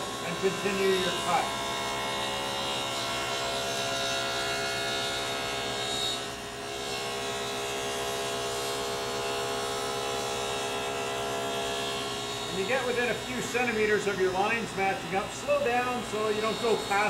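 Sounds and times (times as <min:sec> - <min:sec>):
table saw cutting wood: 0:00.0 - 0:17.0.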